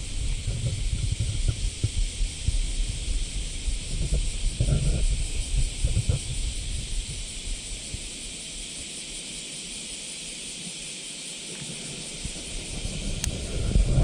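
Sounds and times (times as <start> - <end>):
wind rumble on microphone: 0.0 - 9.2, 11.6 - 14.0
cicadas chorus: 0.0 - 14.0.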